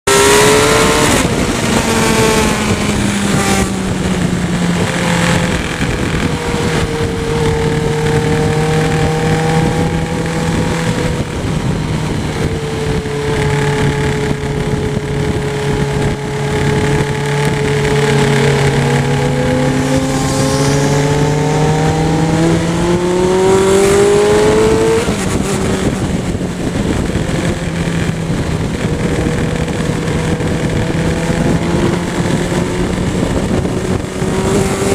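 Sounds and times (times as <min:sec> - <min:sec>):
motorcycle engine running: 0:00.1 - 0:34.9
wind rushing over microphone: 0:00.1 - 0:34.9.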